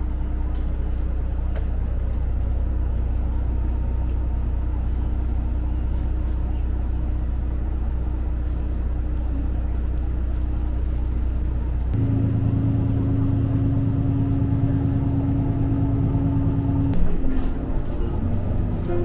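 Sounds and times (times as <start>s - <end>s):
railcar engine drone: 0.0s - 19.0s.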